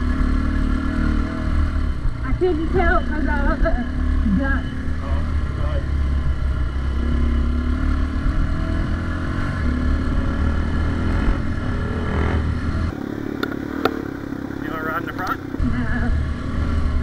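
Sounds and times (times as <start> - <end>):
dirt bike engine running: 0.0 - 17.0
low rumble of wind: 0.0 - 17.0.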